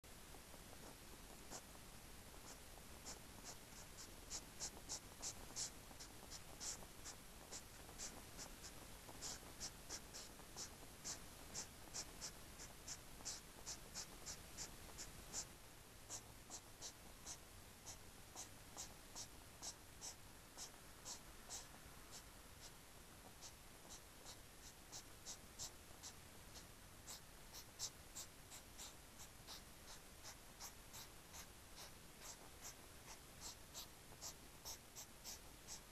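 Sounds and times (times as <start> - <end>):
hedgehog snorting: 2.4 - 15.5, 16.1 - 35.9.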